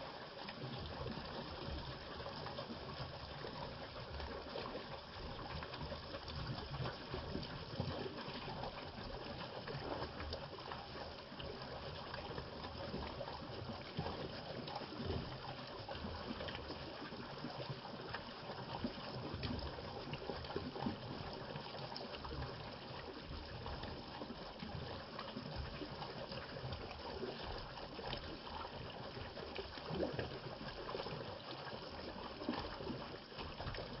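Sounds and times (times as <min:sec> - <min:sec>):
stream water trickling: 0:00.0 - 0:34.0.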